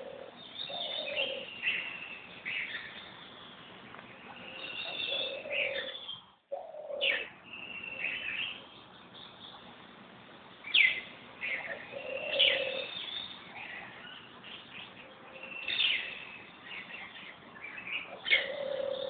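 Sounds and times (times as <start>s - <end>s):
birds chirping and calling: 0.0s - 9.9s, 10.5s - 19.0s.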